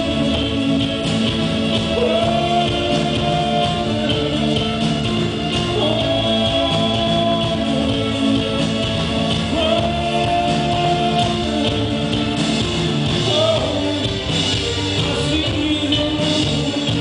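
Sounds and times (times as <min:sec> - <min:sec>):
electric guitar: 0:00.0 - 0:17.0
live rock band playing: 0:00.0 - 0:17.0
man singing: 0:00.0 - 0:17.0.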